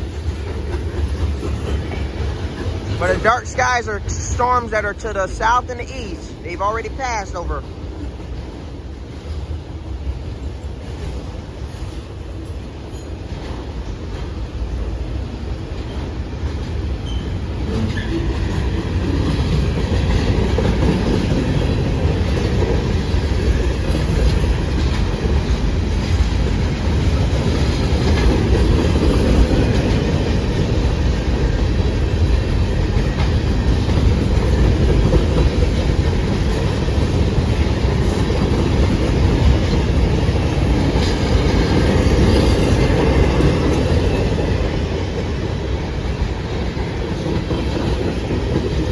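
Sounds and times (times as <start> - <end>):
steel wheels rumbling on rail: 0.0 - 4.6, 7.7 - 48.9.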